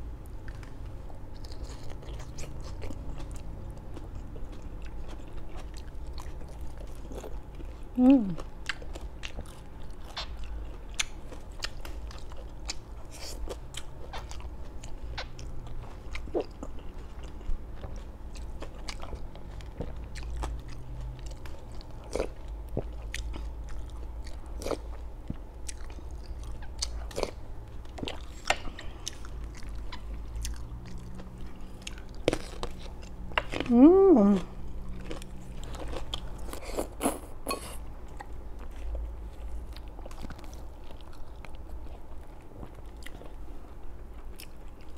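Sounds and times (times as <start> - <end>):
steady low hum: 0.0 - 44.9
chewing crispy fried food: 0.1 - 44.9.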